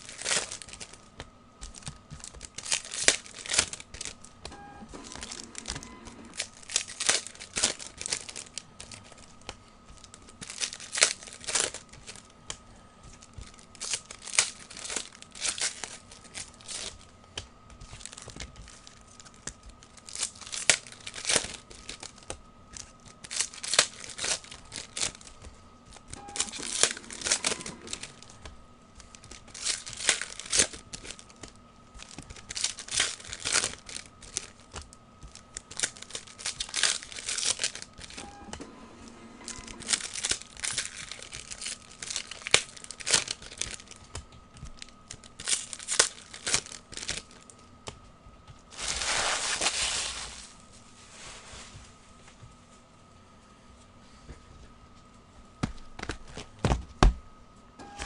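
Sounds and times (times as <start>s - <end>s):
foil packs crinkling and tearing: 0.0s - 38.2s, 39.6s - 47.9s, 48.7s - 51.4s
cards rustling: 0.0s - 48.0s, 48.6s - 51.5s.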